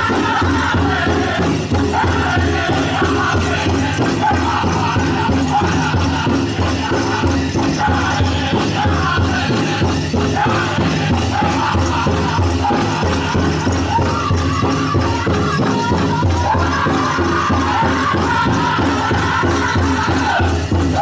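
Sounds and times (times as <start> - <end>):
bells jingling: 0.0 - 21.0
big drum beating: 0.0 - 21.0
high wavering singing voices: 0.0 - 21.0.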